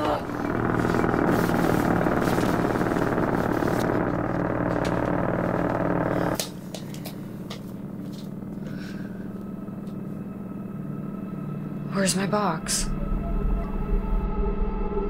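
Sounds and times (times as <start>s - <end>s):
loud mechanical rumble: 0.0s - 15.0s
low hum: 0.0s - 15.0s.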